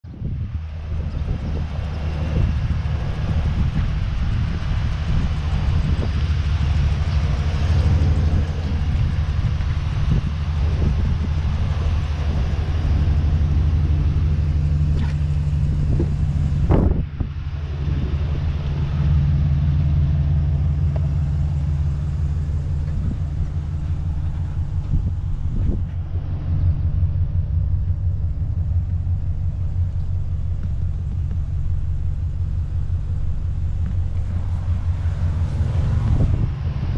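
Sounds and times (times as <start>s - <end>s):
pickup engine idling: 0.0s - 36.9s.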